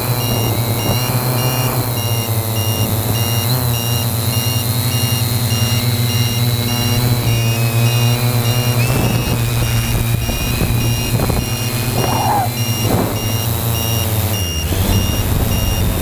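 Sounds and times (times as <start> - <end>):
drone propellers humming: 0.0 - 16.0
high electronic beep: 0.0 - 16.0.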